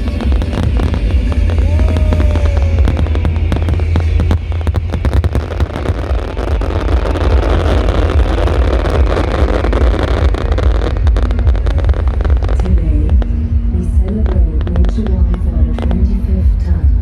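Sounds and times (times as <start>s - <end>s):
sharp crackles: 0.0s - 16.0s
crowd noise: 0.0s - 17.0s.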